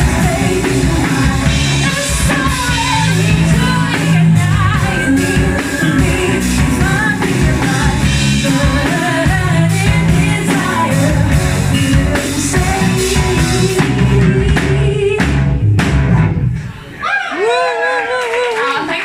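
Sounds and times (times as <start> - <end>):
lead vocal singing: 0.0 - 15.7
live rock band playing: 0.0 - 16.8.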